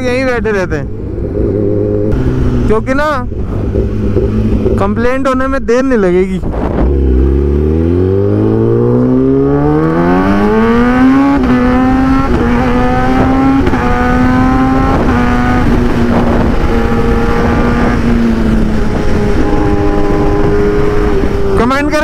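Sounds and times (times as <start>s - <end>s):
motorcycle engine revving: 0.9s - 5.1s, 6.5s - 22.0s.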